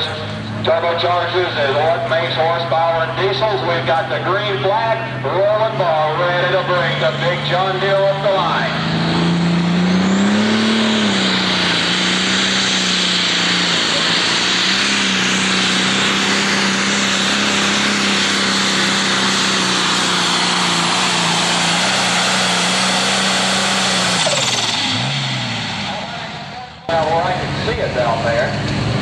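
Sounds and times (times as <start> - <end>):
tractor diesel engine at full throttle: 0.0 - 29.0.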